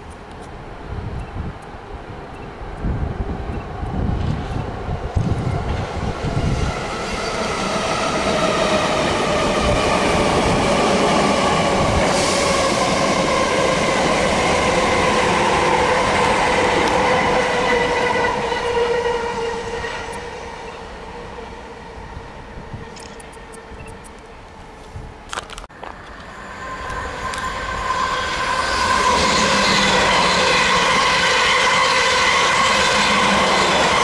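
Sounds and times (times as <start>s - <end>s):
train wheels rumbling on rail: 2.3s - 24.0s, 25.0s - 34.0s.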